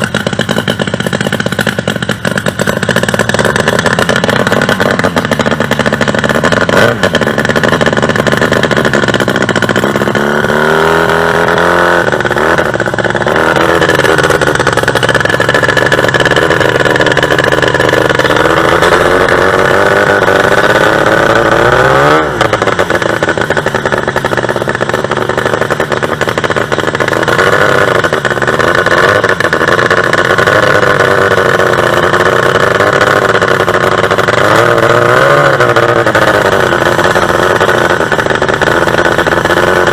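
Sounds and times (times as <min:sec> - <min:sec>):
two-stroke boat engine revving: 0:00.0 - 0:39.9.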